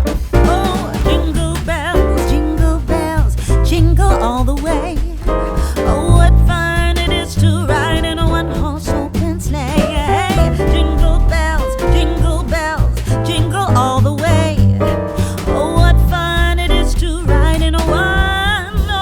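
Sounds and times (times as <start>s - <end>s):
steady bass beat: 0.0s - 19.0s
song with sung vocals: 0.3s - 19.0s.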